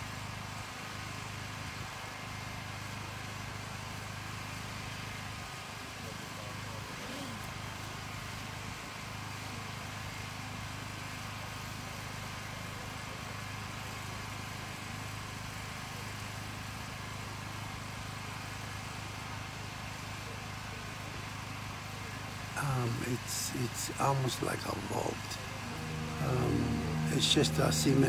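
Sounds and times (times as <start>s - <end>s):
engine drone with low hum: 0.0s - 28.0s.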